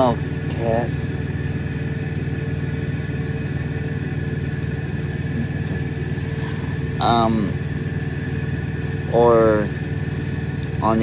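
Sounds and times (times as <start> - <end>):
faint steady whine: 0.0 - 11.0
vehicle engine idling: 0.0 - 11.0.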